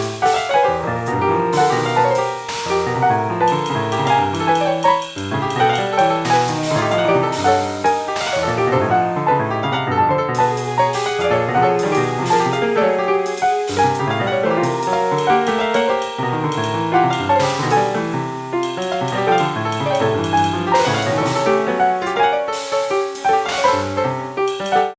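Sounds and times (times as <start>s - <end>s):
jazz piano playing: 0.0s - 24.9s.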